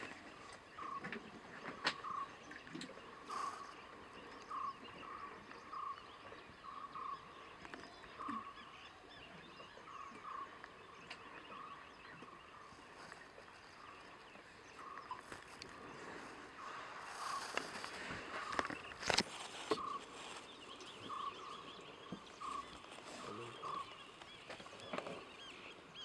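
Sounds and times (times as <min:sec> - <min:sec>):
faint chirping: 0:00.0 - 0:26.0.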